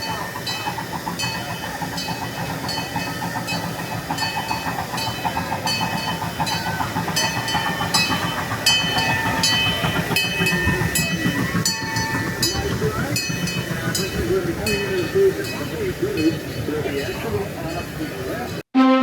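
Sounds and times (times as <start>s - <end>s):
miniature train rumbling: 0.0s - 18.7s.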